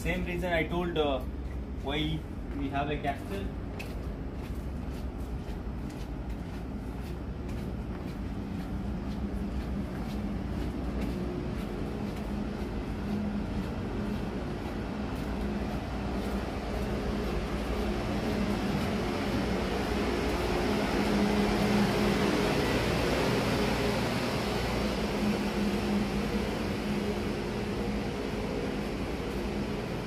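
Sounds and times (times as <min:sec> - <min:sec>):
ship machinery drone: 0:00.0 - 0:30.0
footsteps on steel deck: 0:00.2 - 0:30.0.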